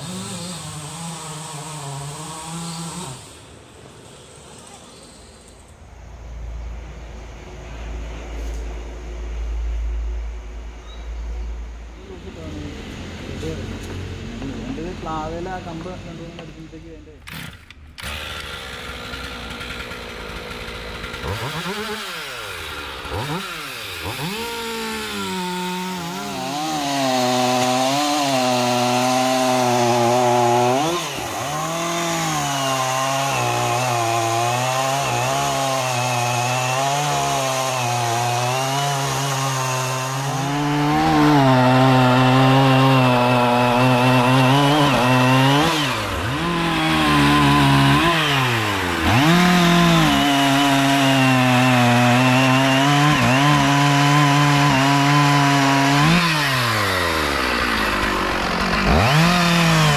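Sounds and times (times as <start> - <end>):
chainsaw cutting wood: 0.0 - 5.7, 12.8 - 59.9.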